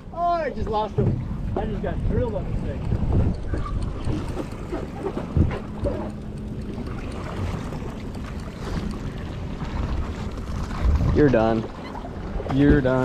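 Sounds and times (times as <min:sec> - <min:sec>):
sea washing against boat: 0:00.0 - 0:13.0
wind buffeting microphone: 0:00.0 - 0:13.0.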